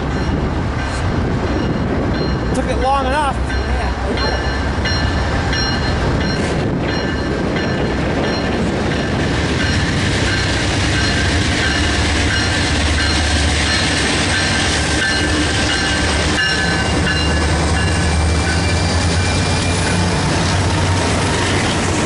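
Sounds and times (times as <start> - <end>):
diesel locomotive engines: 0.0 - 22.0
steel wheels rumbling on rail: 0.0 - 22.0.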